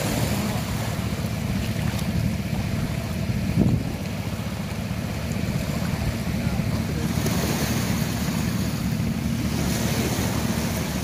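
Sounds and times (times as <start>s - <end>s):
small waves washing on shore: 0.0s - 11.0s
wind rumbling on microphone: 0.0s - 11.0s.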